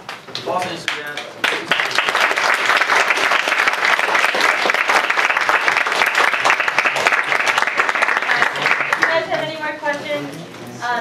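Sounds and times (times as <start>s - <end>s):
audience applauding: 0.1s - 9.6s.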